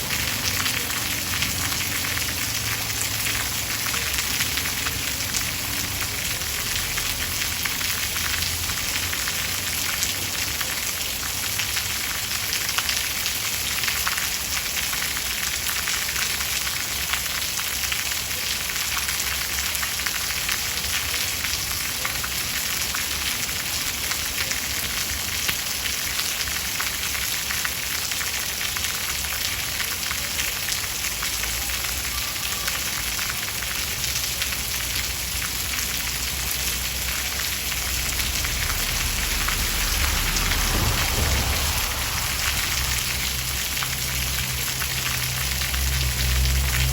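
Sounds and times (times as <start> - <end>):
steady rain pattering: 0.0 - 46.9.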